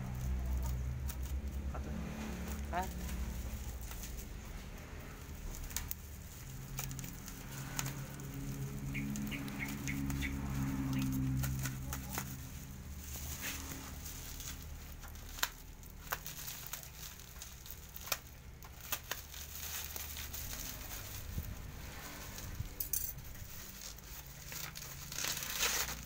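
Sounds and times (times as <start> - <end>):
bubble wrap crinkling: 0.0 - 26.0.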